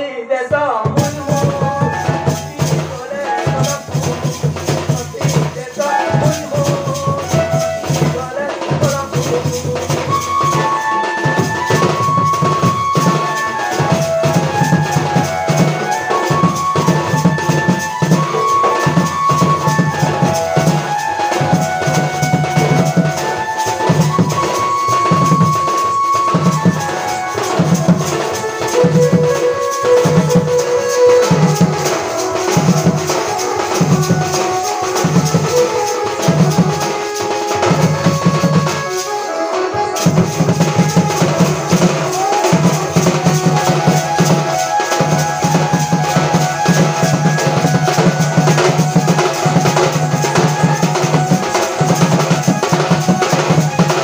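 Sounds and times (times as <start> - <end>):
dhol drum beating: 0.8 - 54.0
melody instrument holding notes: 9.0 - 54.0.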